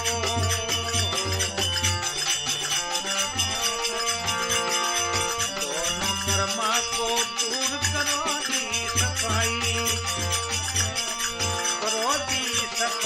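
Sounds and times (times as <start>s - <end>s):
jingling percussion: 0.0s - 13.0s.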